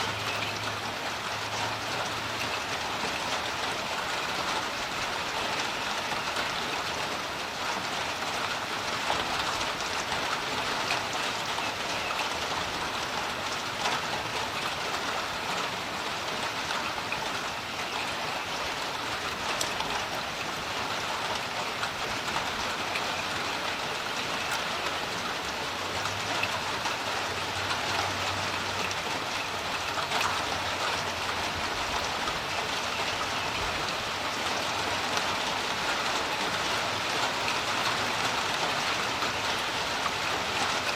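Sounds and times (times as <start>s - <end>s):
rain falling on a creek: 0.0s - 40.9s.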